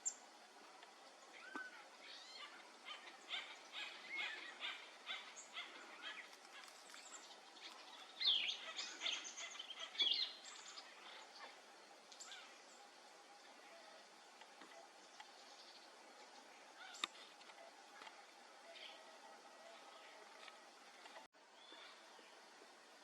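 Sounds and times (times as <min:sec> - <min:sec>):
sweeping bird calls: 0:01.1 - 0:22.4.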